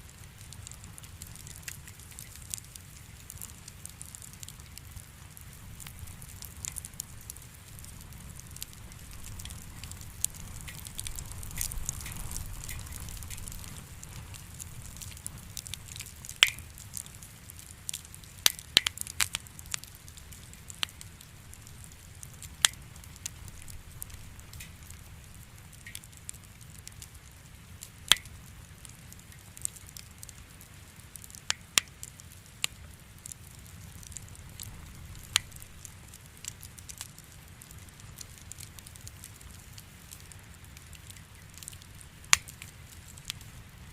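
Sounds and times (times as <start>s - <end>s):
firewood crackling and popping: 0.0s - 43.9s
low rumble of flames: 0.0s - 43.9s.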